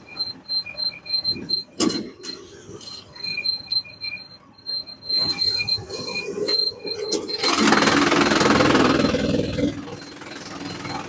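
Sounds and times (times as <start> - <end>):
sawmill machine squealing: 0.0 - 11.0.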